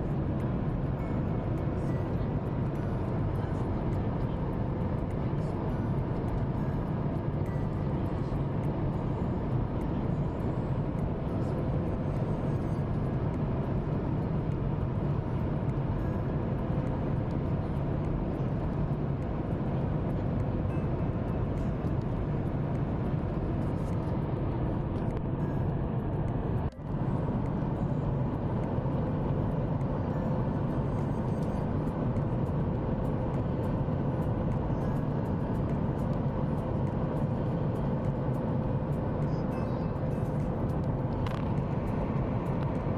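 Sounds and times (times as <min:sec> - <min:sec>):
airliner cabin roar: 0:00.0 - 0:42.9
faint steady hum: 0:00.0 - 0:42.9.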